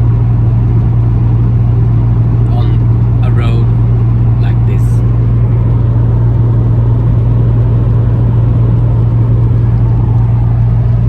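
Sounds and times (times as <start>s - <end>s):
car engine drone: 0.0s - 11.0s
road and tyre rumble: 0.0s - 11.0s.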